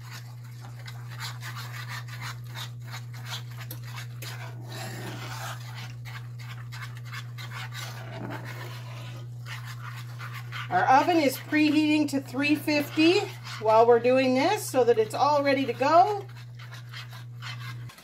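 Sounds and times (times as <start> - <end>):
spoon scraping skillet: 0.0 - 18.0
steady low hum: 0.0 - 18.0.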